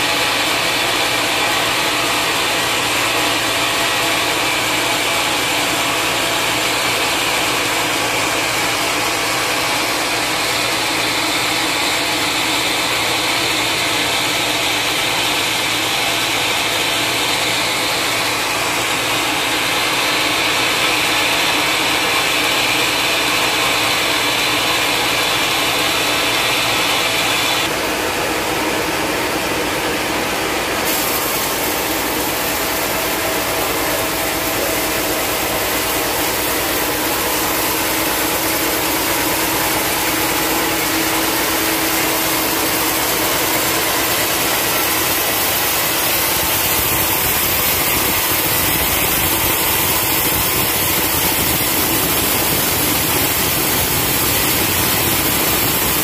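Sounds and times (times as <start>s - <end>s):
band saw cutting log: 0.0s - 56.0s
din of sawmill: 0.0s - 56.0s
large engine running: 0.0s - 56.0s.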